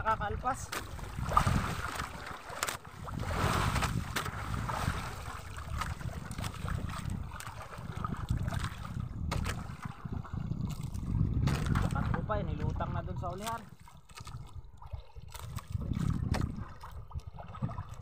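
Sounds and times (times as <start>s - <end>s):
water sloshing against boat hull: 0.0s - 18.0s
wind buffeting microphone: 0.0s - 18.0s
splashes: 0.5s - 18.0s.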